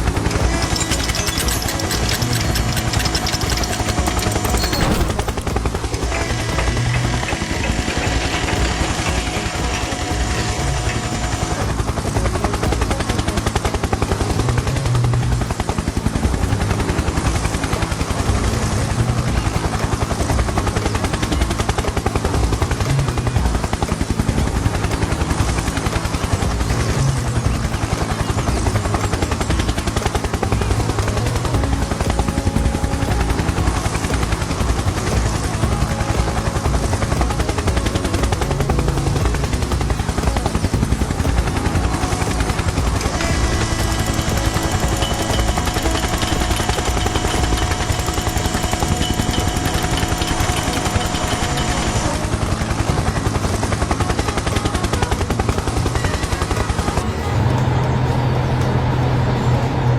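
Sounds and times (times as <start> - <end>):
heavy vehicle engine chugging: 0.0 - 59.9.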